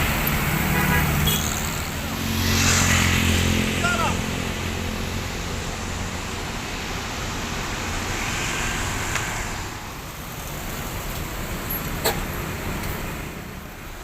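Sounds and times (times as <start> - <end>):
vehicle engines and traffic: 0.0 - 14.0.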